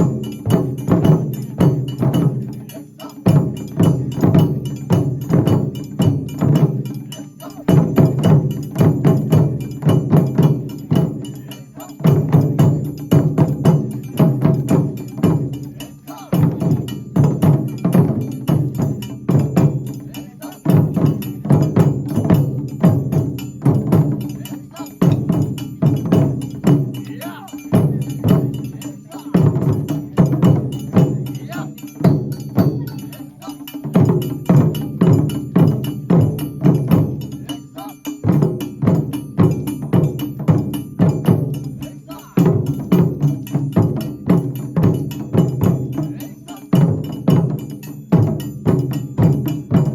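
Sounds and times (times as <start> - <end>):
drum ensemble playing rapid strokes: 0.0 - 49.9.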